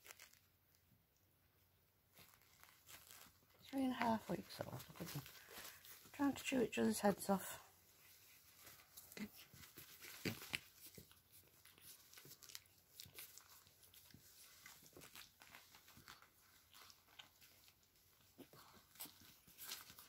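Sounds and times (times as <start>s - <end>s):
puppies scuffling on pads: 2.1s - 20.0s.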